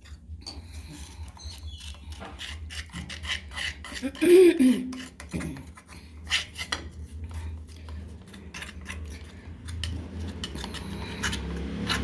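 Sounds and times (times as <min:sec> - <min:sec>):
metal spoon scraping bowl: 0:00.0 - 0:12.0.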